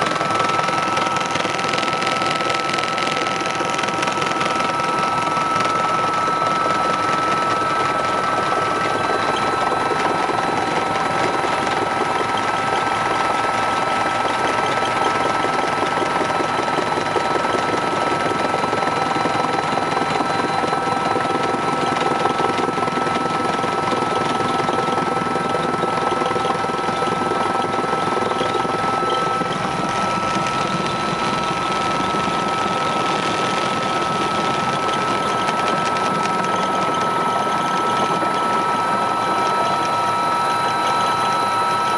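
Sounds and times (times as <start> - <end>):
helicopter cabin noise: 0.0 - 41.9.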